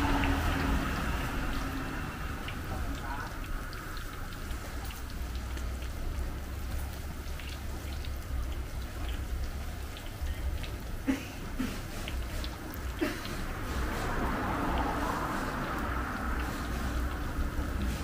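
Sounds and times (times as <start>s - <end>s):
deep-frying sizzle with crackles: 0.0s - 18.0s.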